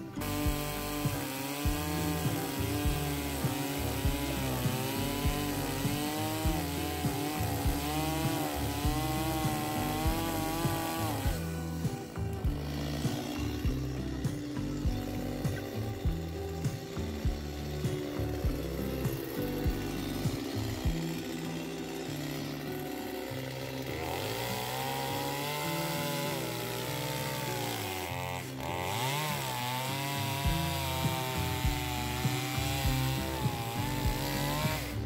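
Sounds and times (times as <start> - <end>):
background music with steady beat: 0.0 - 35.0
chainsaw cutting log: 0.0 - 35.0.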